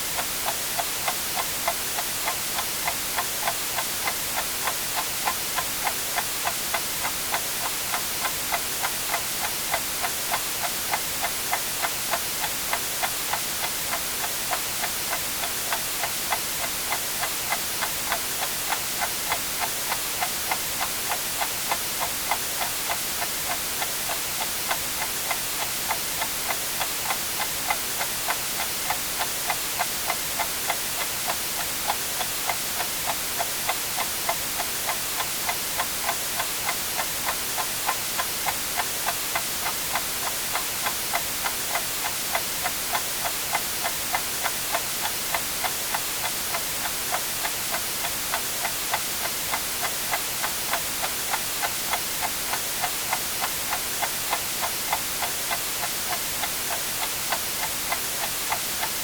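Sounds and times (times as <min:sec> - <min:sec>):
white noise hiss: 0:00.0 - 0:59.0
clock ticking: 0:00.2 - 0:59.0.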